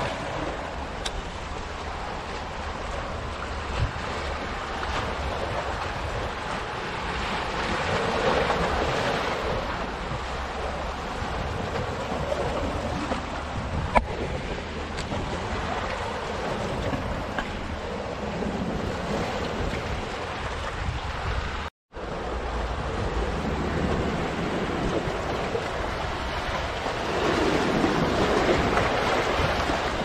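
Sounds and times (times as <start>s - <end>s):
waves splashing among boulders: 0.0s - 30.0s
wind rumble on microphone: 0.0s - 30.0s.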